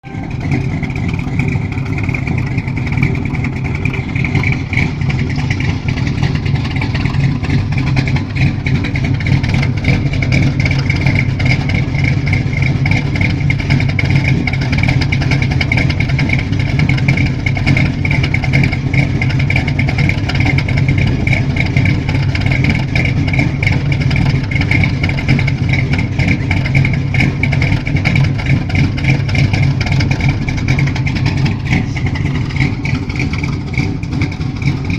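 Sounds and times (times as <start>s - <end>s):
engine running steadily: 0.0s - 34.9s
high engine whine: 0.0s - 34.9s.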